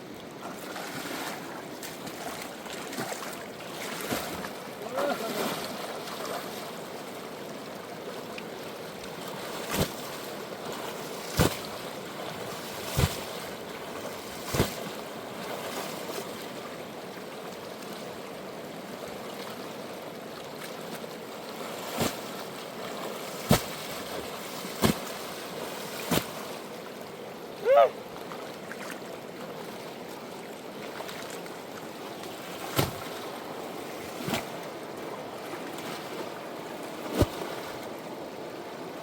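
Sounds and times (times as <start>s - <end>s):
flowing river water: 0.0s - 39.0s.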